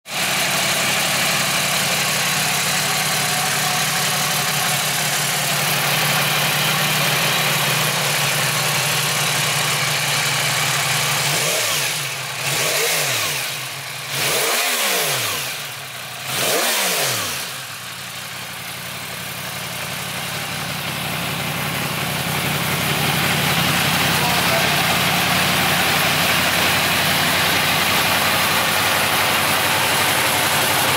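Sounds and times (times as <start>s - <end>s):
motorcycle engine idling: 0.1s - 30.9s.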